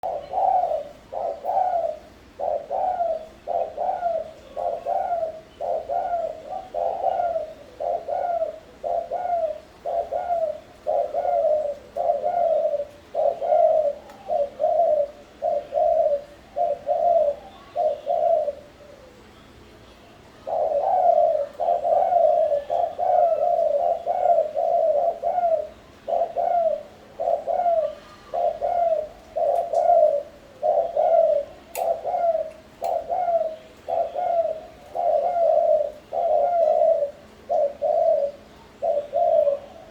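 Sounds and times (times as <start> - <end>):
dove cooing: 0.0 - 19.3, 20.3 - 39.9.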